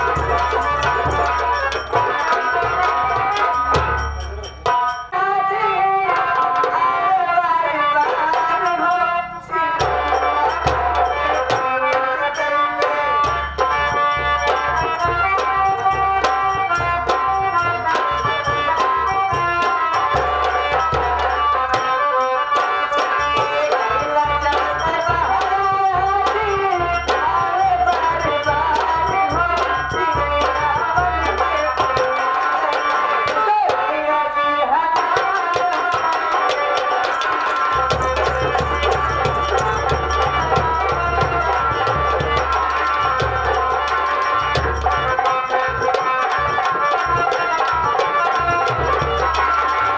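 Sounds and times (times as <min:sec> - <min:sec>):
small hand drum: 0:00.0 - 0:05.1, 0:09.7 - 0:34.0, 0:34.9 - 0:49.9.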